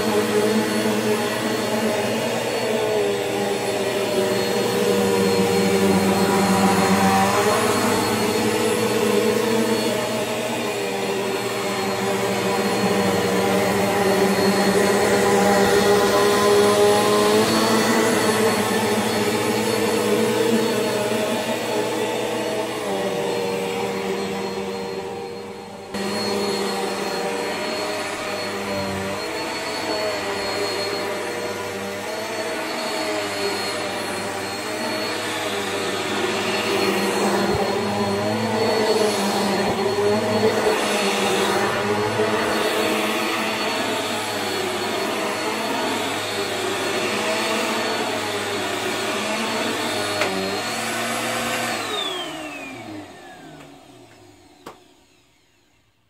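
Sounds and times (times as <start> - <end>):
upright vacuum running: 0.0 - 55.8.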